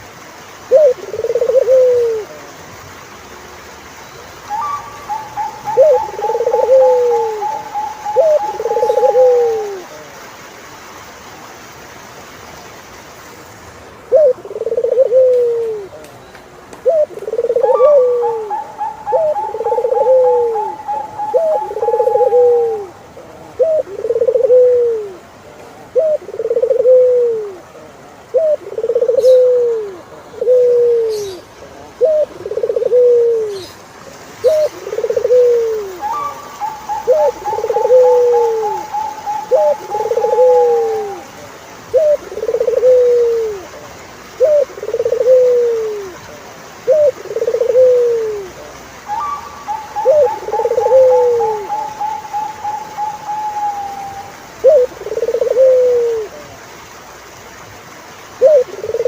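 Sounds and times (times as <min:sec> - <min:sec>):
doves cooing: 0:00.6 - 0:02.6, 0:04.4 - 0:10.2, 0:14.0 - 0:16.1, 0:16.8 - 0:33.8, 0:34.4 - 0:56.6, 0:58.4 - 0:59.0.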